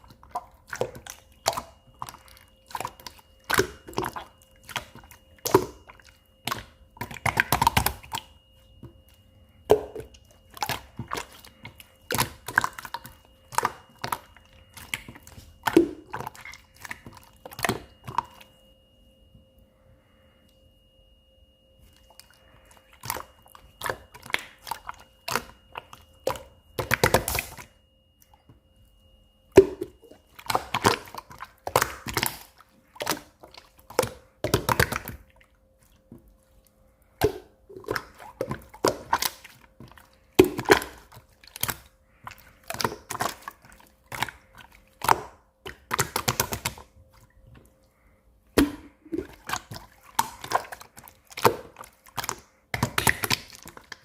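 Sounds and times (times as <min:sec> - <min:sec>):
slime squishing with sticky pops: 0:00.0 - 0:18.6, 0:21.8 - 0:28.8, 0:29.5 - 0:54.0.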